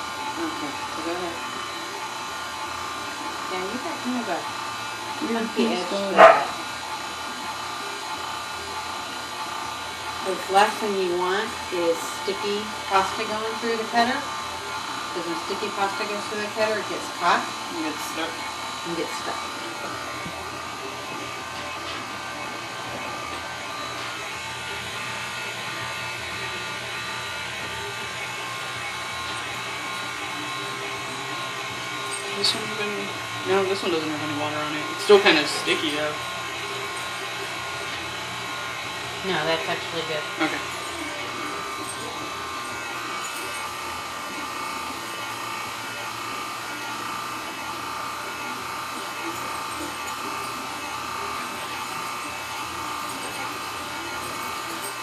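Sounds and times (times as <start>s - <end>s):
pasta machine motor humming: 0.0s - 55.0s.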